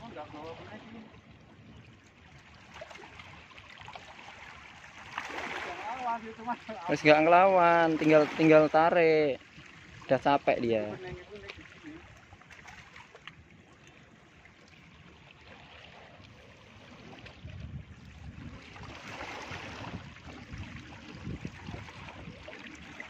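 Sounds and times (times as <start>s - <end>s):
water lapping against rocks: 1.9s - 23.0s.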